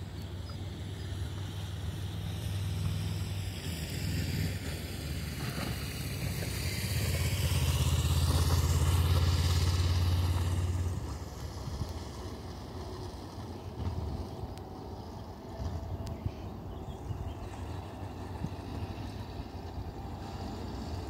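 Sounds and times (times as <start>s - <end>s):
distant jet engines roaring: 0.0s - 21.0s.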